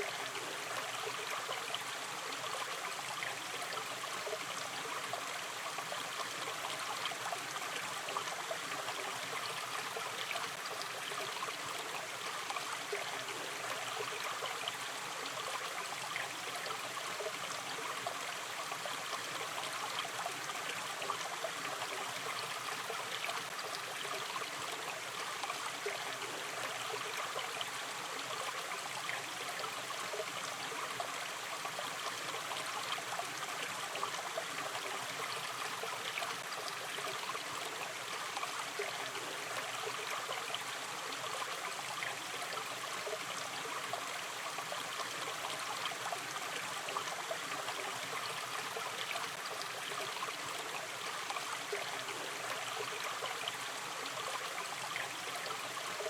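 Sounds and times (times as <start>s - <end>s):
stream flowing water: 0.0s - 56.0s.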